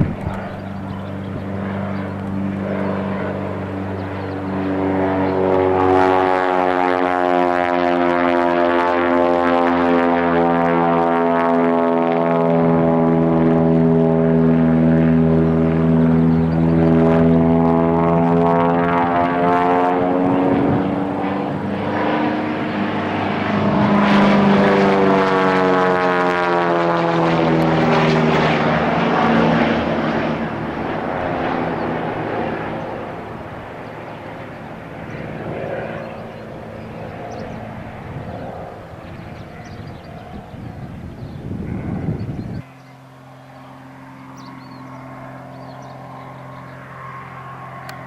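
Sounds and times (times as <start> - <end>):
propeller plane passing: 0.0 - 48.0.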